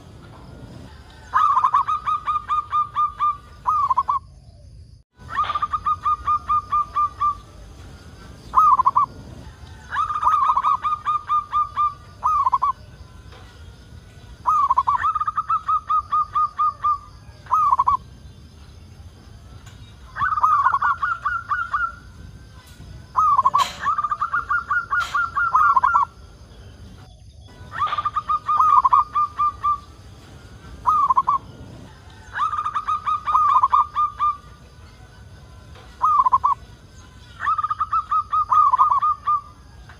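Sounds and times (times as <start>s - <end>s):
dove cooing: 0.0s - 4.6s, 5.2s - 13.0s, 14.3s - 18.1s, 20.0s - 26.9s, 27.6s - 39.9s.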